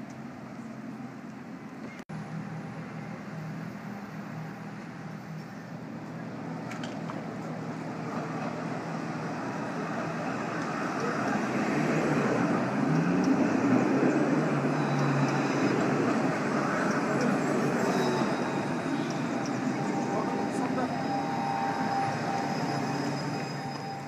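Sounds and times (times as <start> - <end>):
tram wheels rumbling on rails: 0.2 - 24.0.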